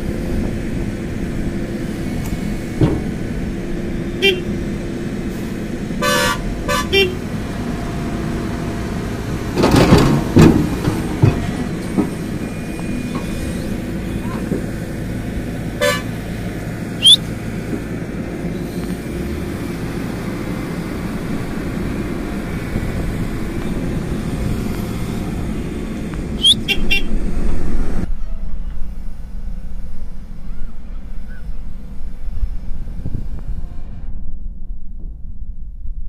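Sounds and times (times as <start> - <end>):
excavator diesel engine drone: 0.0 - 35.4.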